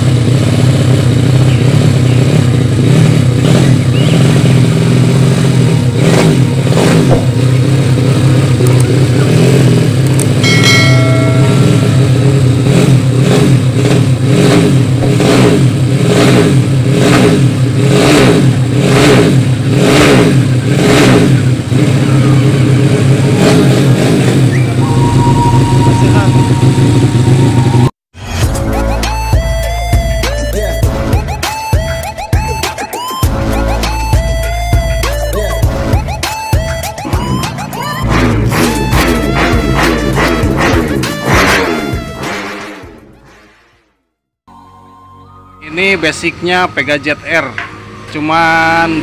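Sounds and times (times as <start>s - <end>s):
motorcycle engine revving: 0.0s - 32.6s, 33.3s - 44.1s.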